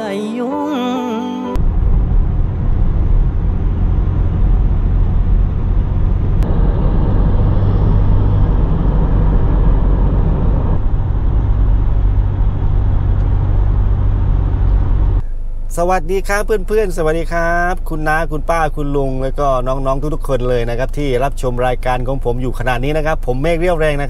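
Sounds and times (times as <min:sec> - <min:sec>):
car road and engine noise: 0:01.6 - 0:24.0.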